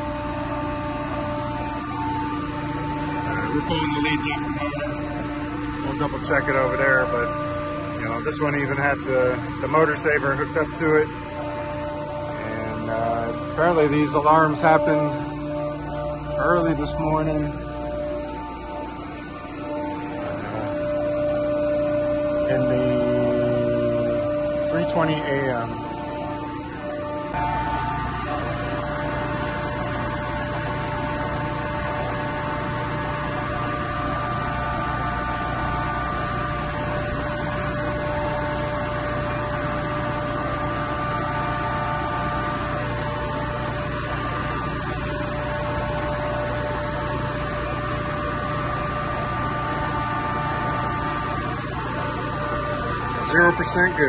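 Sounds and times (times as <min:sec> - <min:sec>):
machinery hum: 0:00.0 - 0:54.0
steady whining tones: 0:00.0 - 0:54.0.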